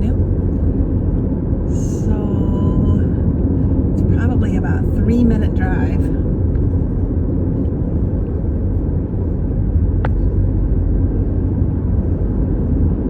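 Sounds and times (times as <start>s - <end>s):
car driving rumble from inside: 0.0s - 13.0s.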